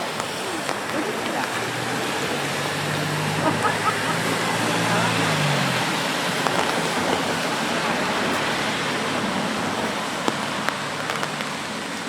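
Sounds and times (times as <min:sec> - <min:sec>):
rain on a street: 0:00.0 - 0:12.0.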